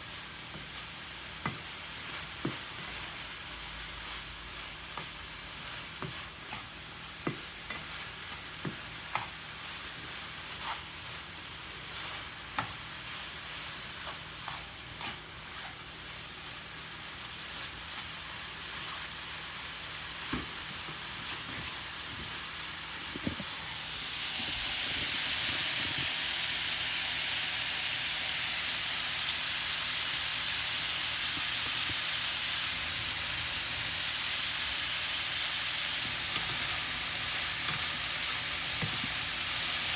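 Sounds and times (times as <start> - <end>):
rice sizzling in a pan: 0.0 - 39.9.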